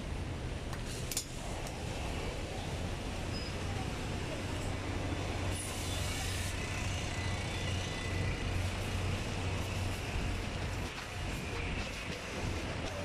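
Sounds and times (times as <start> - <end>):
tyres hissing on wet road: 0.8 - 13.0
heavy vehicle engine humming: 2.4 - 13.0.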